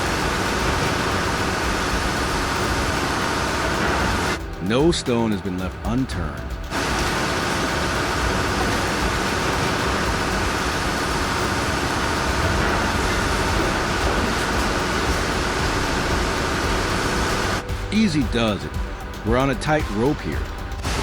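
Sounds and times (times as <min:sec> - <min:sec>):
heavy machinery rumble and hiss: 0:00.0 - 0:04.6, 0:06.4 - 0:19.3, 0:19.9 - 0:21.0.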